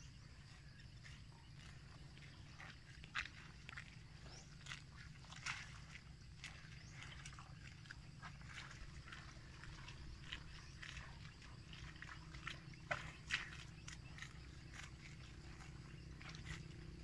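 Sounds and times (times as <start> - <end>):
animal chewing grass: 0.4 - 17.0.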